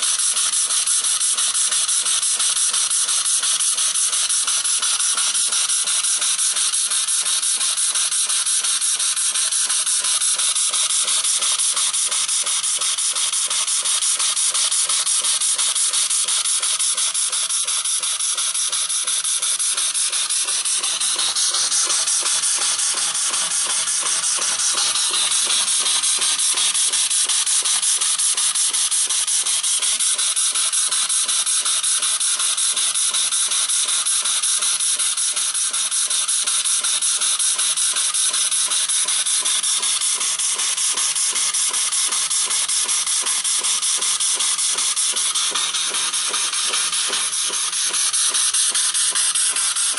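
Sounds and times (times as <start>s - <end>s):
steam engine exhaust puffing: 0.0s - 32.8s, 36.5s - 49.9s.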